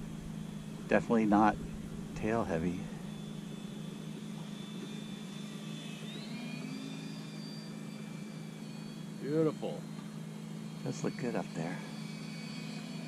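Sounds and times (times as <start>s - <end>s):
electric motor propeller drone: 0.0s - 13.0s.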